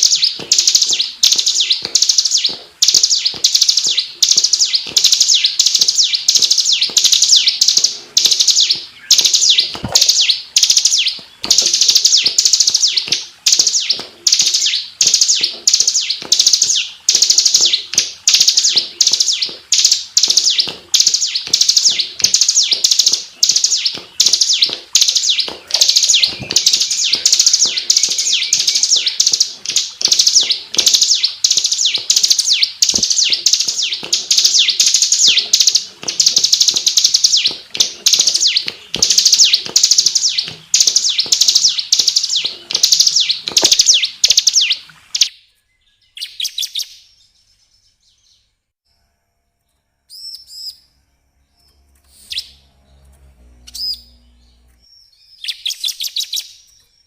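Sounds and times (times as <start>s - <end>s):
bird chirping song: 0.0s - 48.7s, 49.6s - 57.0s.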